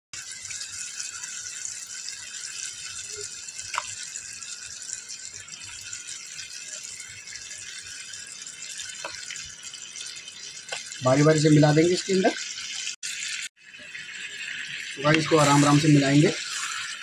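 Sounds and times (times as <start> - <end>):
spices sizzling in a frying pan: 0.2 - 17.0.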